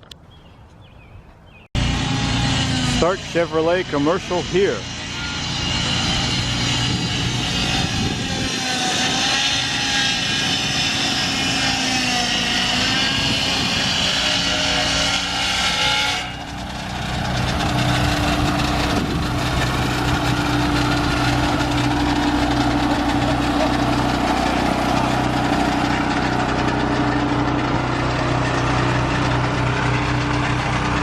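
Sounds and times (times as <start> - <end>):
engine humming: 1.8 - 31.0.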